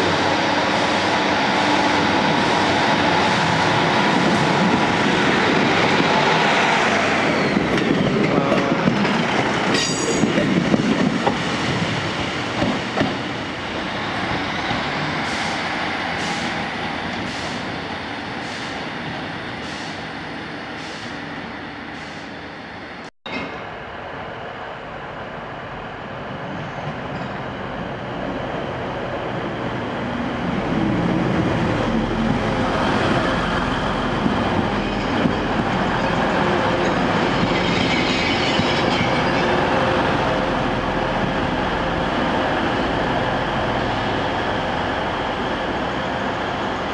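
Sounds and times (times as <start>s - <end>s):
train engine and wheel noise: 0.0s - 46.9s.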